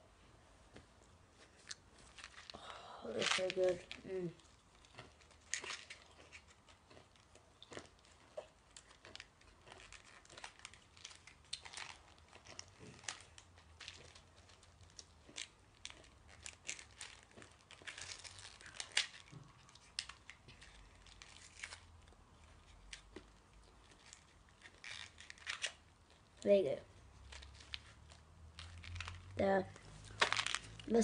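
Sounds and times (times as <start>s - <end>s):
candy wrapper crinkling: 1.5s - 31.0s.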